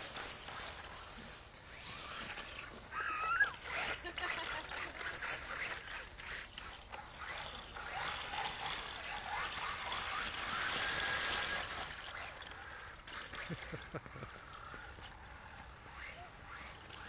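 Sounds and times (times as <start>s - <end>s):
toy car motor rising whines: 0.0s - 17.0s
toy car motor whirring: 0.0s - 17.0s.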